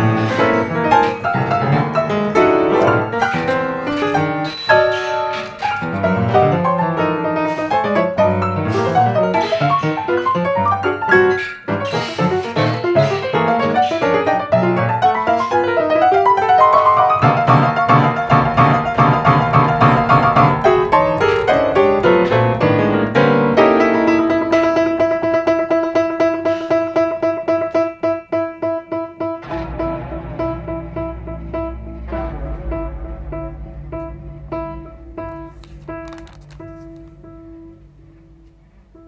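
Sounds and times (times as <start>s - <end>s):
grand piano played fast: 0.0s - 39.0s.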